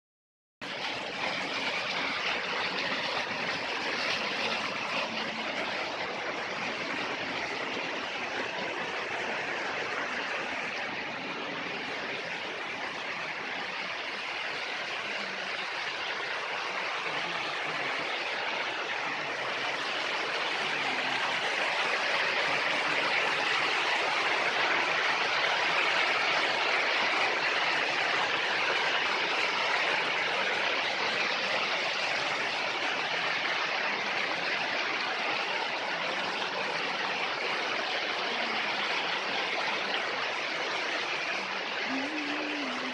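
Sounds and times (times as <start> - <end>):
stream water splashing: 0.6 - 42.9.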